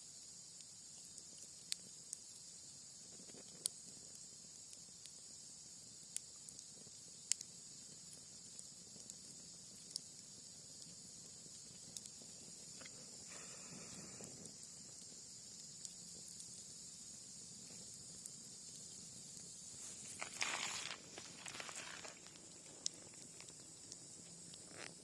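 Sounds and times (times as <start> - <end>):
night insects chirring: 0.0 - 25.0
campfire crackling and popping: 0.1 - 25.0.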